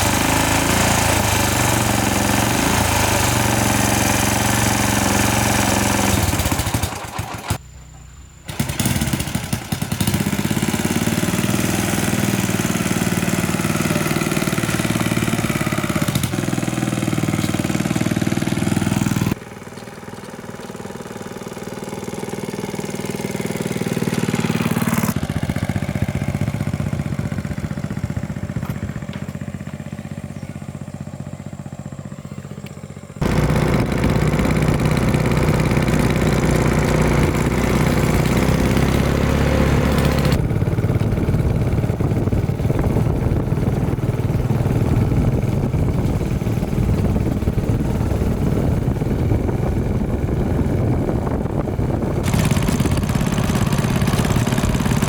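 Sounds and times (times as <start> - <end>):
motorcycle engine running: 0.0 - 7.6, 8.5 - 55.0.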